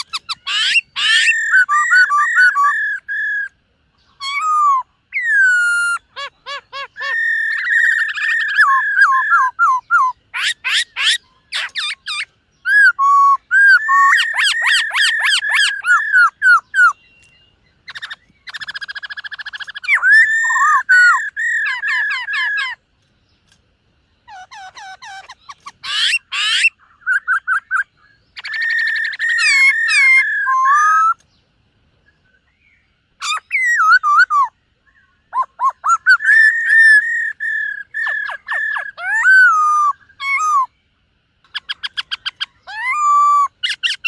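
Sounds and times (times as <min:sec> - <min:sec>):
bird singing whistled phrases: 0:00.0 - 0:22.8, 0:24.2 - 0:31.2, 0:32.1 - 0:40.8, 0:41.6 - 0:44.0.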